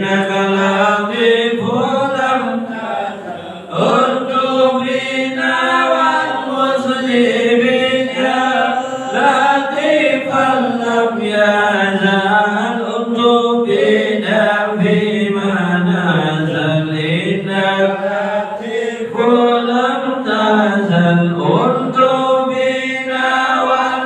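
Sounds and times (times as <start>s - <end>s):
voices chanting in unison: 0.0s - 24.0s.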